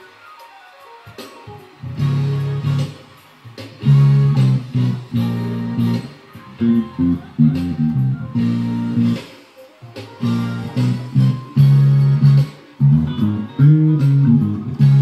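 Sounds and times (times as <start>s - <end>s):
electric bass guitar: 1.8s - 9.3s, 10.1s - 15.0s.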